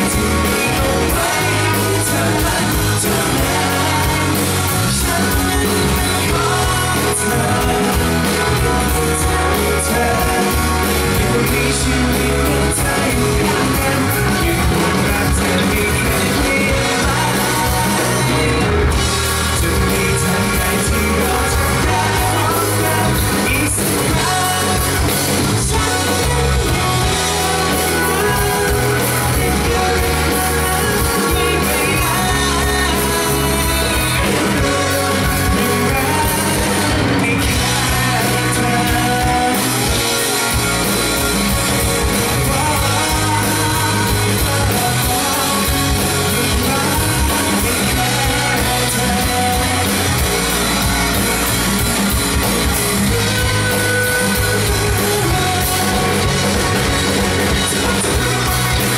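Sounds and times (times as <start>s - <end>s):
male lead vocal: 0.0s - 58.9s
pop-rock band playing: 0.0s - 58.9s.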